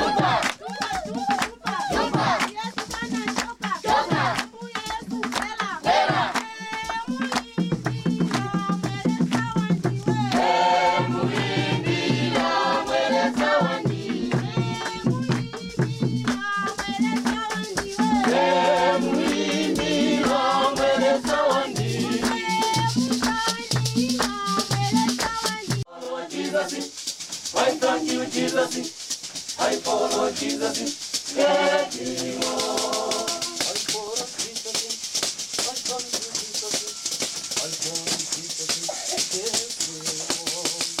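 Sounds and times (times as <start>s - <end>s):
group singing: 0.0s - 37.8s
shaker rattle: 0.0s - 41.0s.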